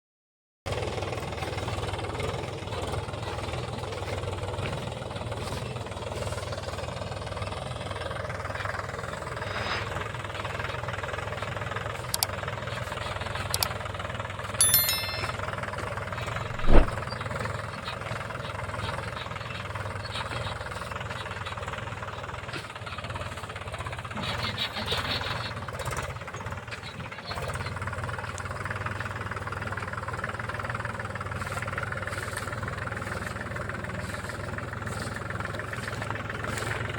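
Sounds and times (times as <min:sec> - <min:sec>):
tractor diesel engine running: 0:00.7 - 0:36.9.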